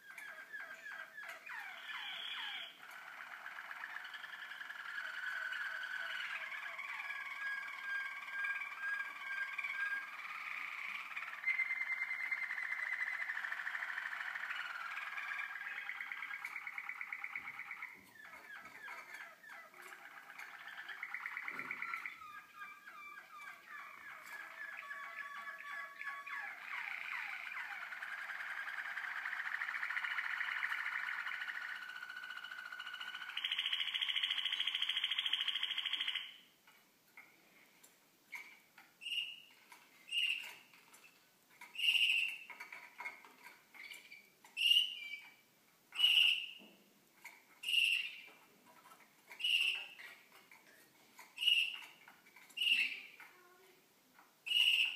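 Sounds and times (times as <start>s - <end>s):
canaries singing trilling song: 0.0s - 37.7s, 38.3s - 54.9s.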